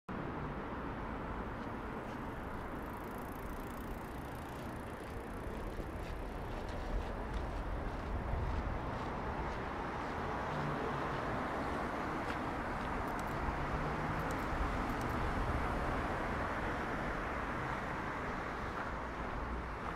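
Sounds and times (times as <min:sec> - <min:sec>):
cars passing: 0:00.1 - 0:19.9.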